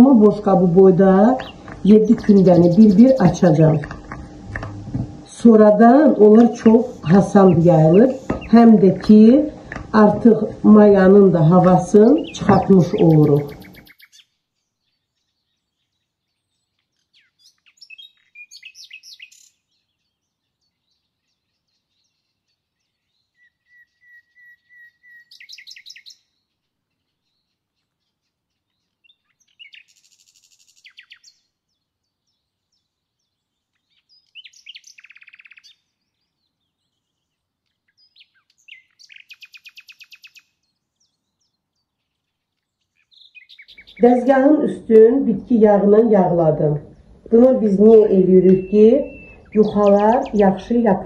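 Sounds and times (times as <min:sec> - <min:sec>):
songbird trilled chirps: 0:00.0 - 0:04.8, 0:05.6 - 0:46.1, 0:46.8 - 0:51.0.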